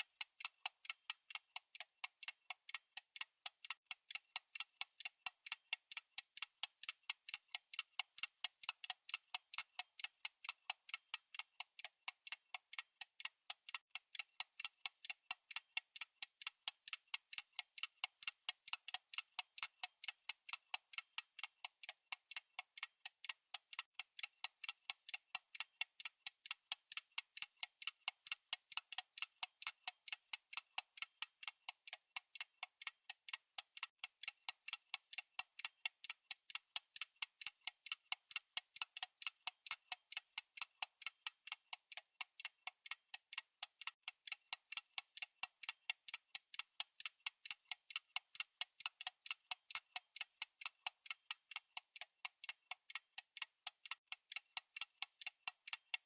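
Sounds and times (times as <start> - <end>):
timer ticking: 0.0 - 56.0.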